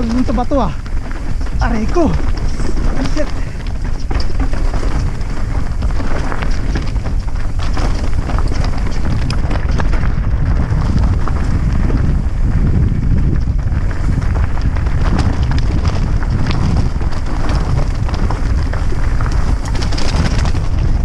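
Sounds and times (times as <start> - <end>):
clicking and rattling on rocky trail: 0.0 - 21.0
wind buffeting microphone: 0.0 - 21.0.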